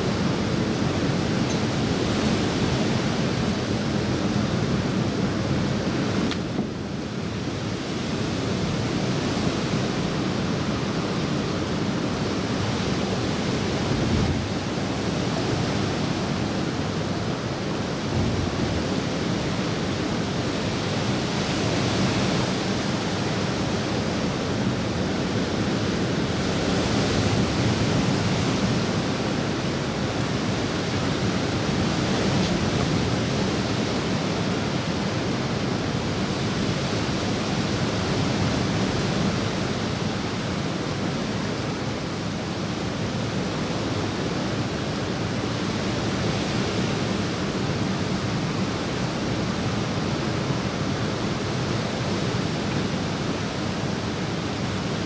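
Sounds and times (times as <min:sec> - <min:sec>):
rain and moving water: 0:00.0 - 0:55.0.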